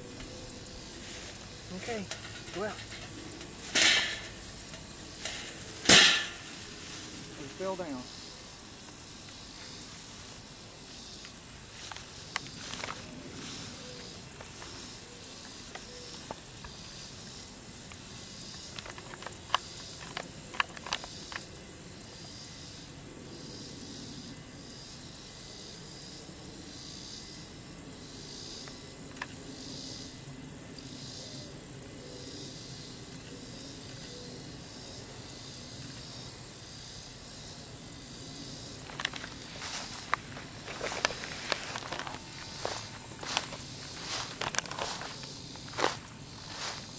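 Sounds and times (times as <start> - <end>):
insects chirring: 0.0 - 46.9.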